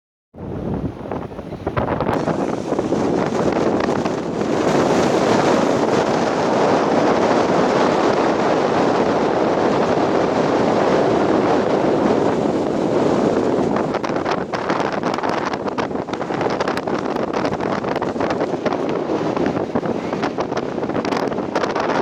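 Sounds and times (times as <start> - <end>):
sea surf: 0.4 - 22.0
strong wind on microphone: 0.4 - 22.0.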